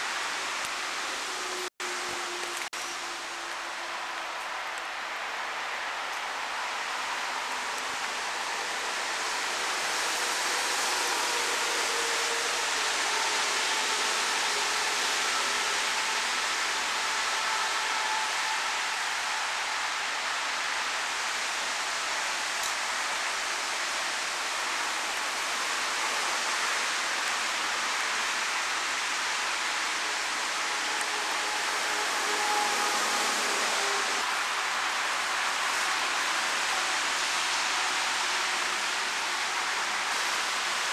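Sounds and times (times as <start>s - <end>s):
rain hissing: 0.0s - 40.9s
electric railcars whining: 5.6s - 21.5s, 22.1s - 40.9s.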